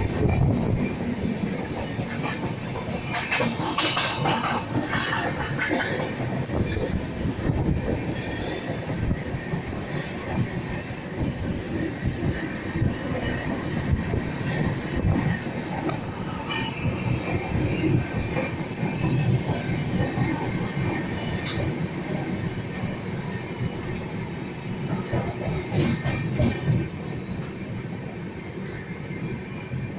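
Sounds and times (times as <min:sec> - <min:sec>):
train wheels rumbling on track: 0:00.0 - 0:29.9.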